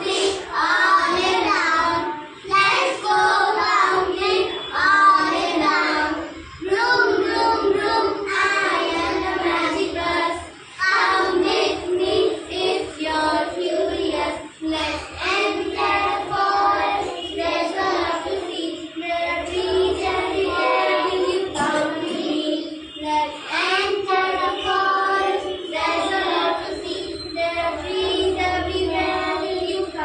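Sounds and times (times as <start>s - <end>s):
young children singing in unison: 0.0s - 30.0s.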